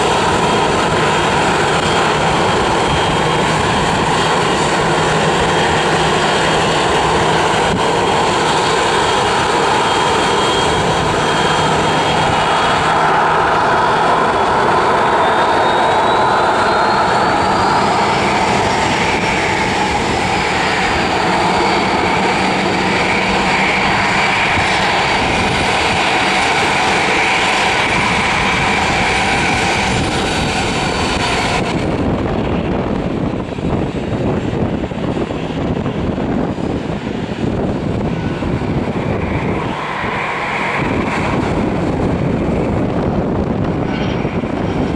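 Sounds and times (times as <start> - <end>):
jet engine whine and rumble: 0.0 - 44.9.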